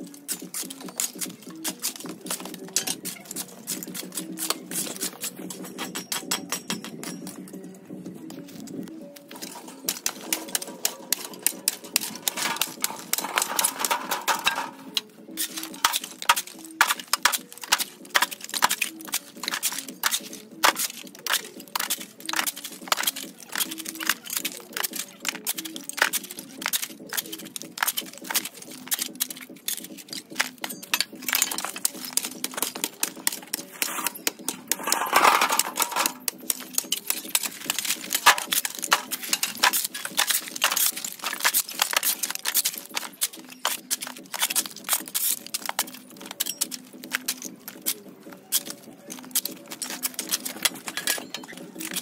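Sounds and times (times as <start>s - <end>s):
metal hoes scraping dirt: 0.0s - 7.4s, 8.6s - 52.0s
brick fragments clattering: 9.3s - 48.0s, 48.6s - 52.0s.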